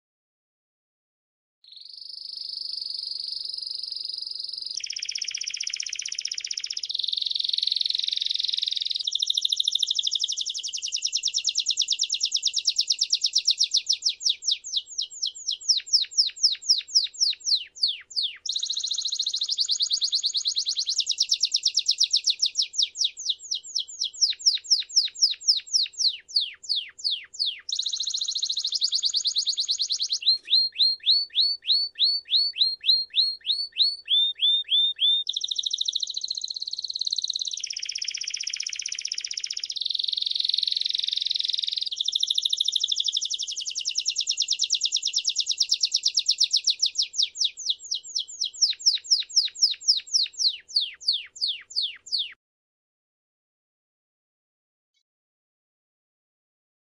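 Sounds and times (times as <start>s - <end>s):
canary singing trills: 1.7s - 52.4s.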